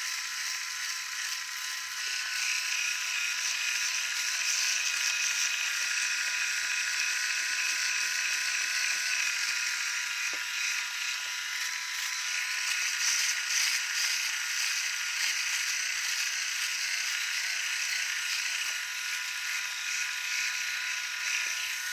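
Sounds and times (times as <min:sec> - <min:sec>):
electric shaver whining: 0:00.0 - 0:21.9.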